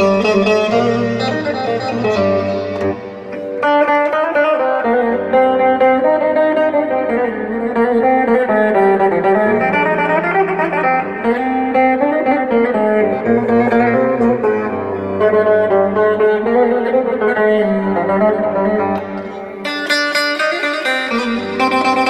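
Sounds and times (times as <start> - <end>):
amplified plucked saz melody: 0.0 - 22.0.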